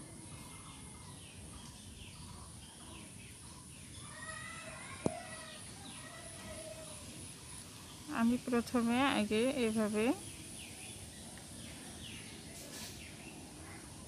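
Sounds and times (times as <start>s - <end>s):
faint birds chirping: 0.0s - 14.0s
steady background noise: 0.0s - 14.0s.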